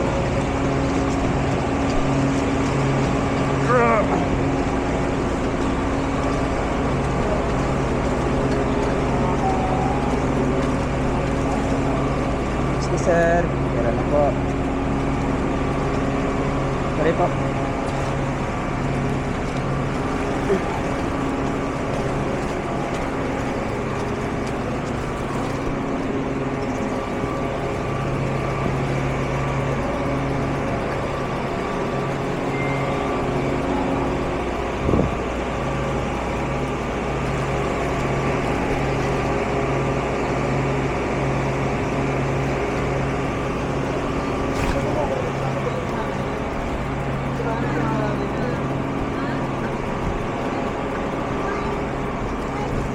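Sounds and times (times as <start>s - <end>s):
motor vehicle running: 0.0s - 52.9s.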